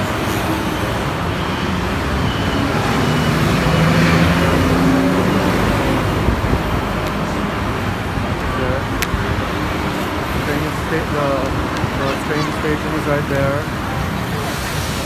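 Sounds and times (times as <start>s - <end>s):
bus engine hum: 0.0s - 15.0s
road traffic: 0.0s - 15.0s.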